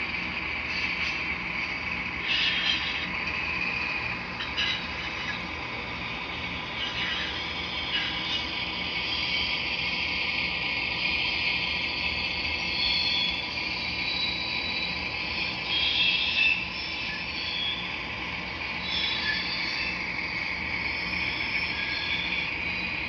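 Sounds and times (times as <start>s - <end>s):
model train whirring and rattling: 0.0s - 23.0s.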